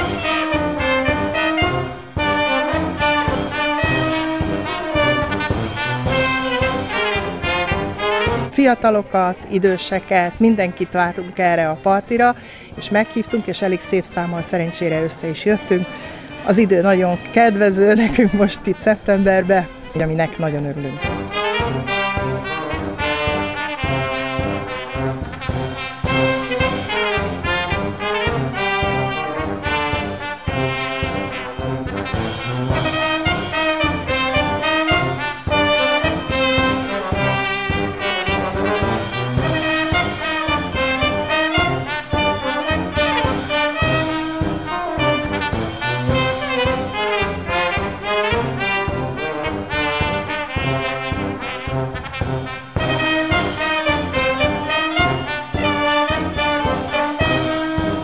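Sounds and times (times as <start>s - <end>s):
upbeat brass band music: 0.0s - 58.0s.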